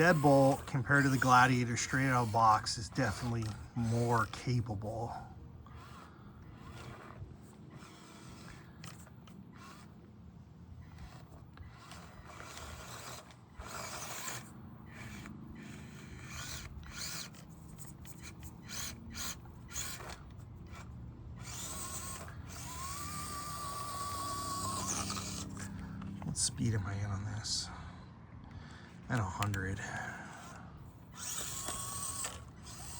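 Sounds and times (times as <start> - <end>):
small electric motor whining: 0.0 - 26.6, 29.1 - 32.9.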